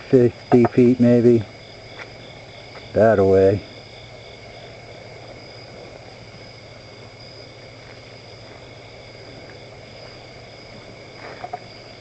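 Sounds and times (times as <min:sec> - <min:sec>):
insect chorus: 0:00.0 - 0:12.0
low even hiss: 0:00.0 - 0:12.0.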